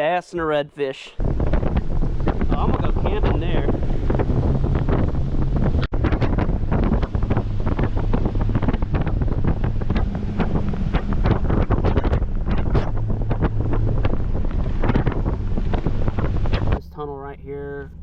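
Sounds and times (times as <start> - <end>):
faint low hum: 0.0 - 18.0
wind buffeting microphone: 1.2 - 18.0.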